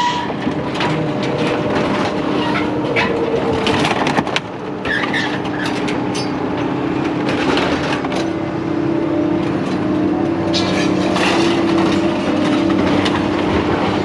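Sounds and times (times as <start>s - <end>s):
engine running: 0.3s - 14.0s.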